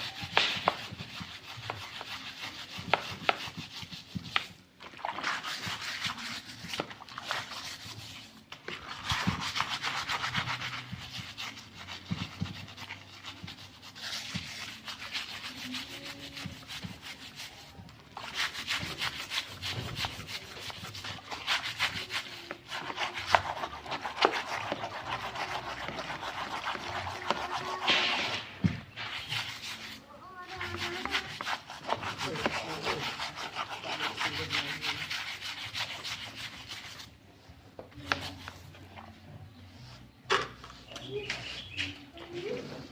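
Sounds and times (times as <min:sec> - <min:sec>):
scrubbing engine parts: 0:00.0 - 0:37.2.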